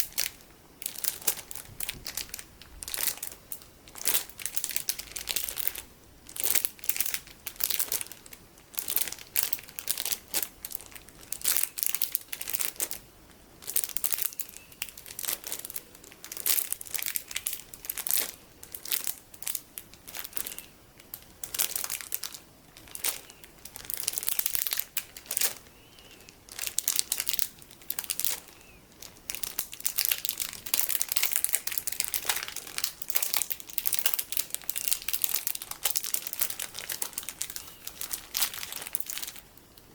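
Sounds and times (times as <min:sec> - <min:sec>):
plastic packaging crinkling: 0:00.0 - 0:39.9.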